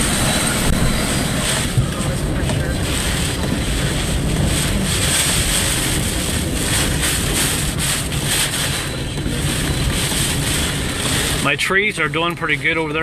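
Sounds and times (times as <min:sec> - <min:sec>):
strong wind gusting around car: 0:00.0 - 0:13.0
wind rumbling on microphone: 0:00.0 - 0:13.0.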